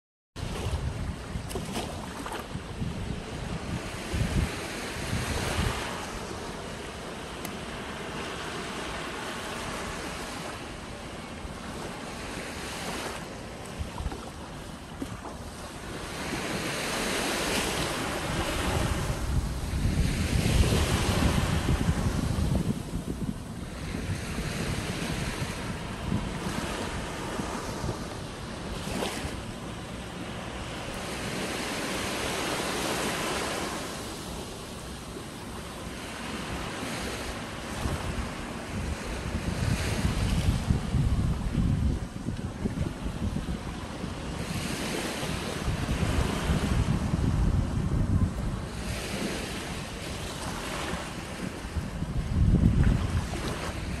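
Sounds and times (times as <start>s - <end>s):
wind buffeting microphone: 0.4s - 7.2s, 7.8s - 34.8s, 36.0s - 54.0s
waves lapping on a beach: 0.4s - 54.0s.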